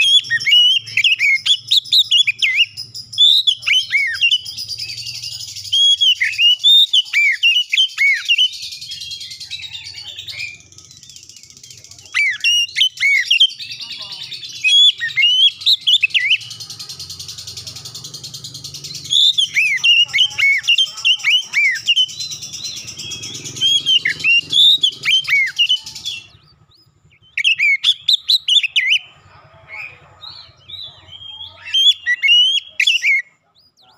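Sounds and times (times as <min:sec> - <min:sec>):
bird singing whistled notes: 0:00.0 - 0:16.6, 0:17.3 - 0:29.2, 0:29.8 - 0:33.9.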